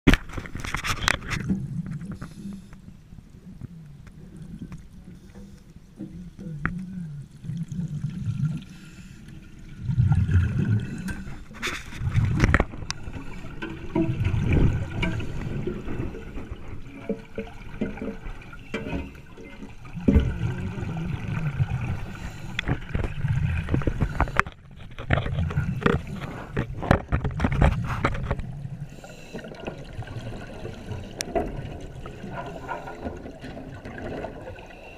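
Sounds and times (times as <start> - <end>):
underwater gurgling and bubbling: 1.0 - 34.9.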